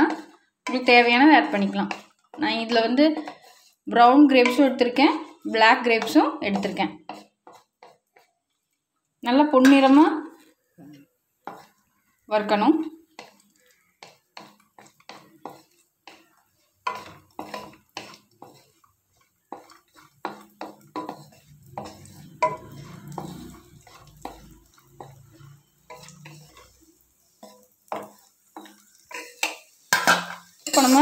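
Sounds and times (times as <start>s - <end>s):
spatula scraping a pan: 0.0s - 8.8s, 9.4s - 31.0s.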